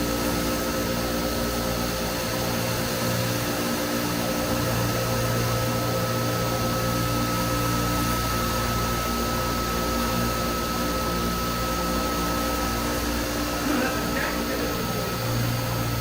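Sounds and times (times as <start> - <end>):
cutting machine hum and whine: 0.0 - 16.0.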